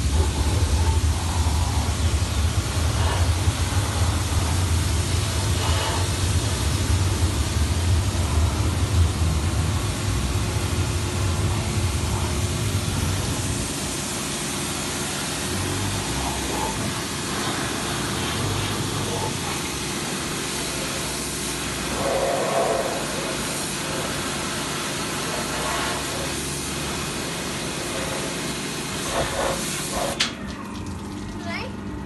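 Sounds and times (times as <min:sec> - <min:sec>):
pressure washer jet hissing: 0:00.0 - 0:30.3
washer motor humming: 0:00.0 - 0:32.0.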